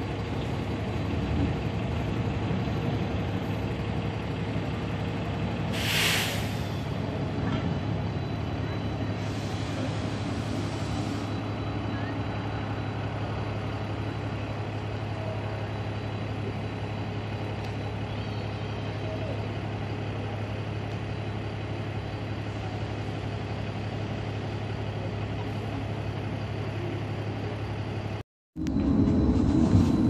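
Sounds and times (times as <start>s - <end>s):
street noise: 0.0s - 30.0s.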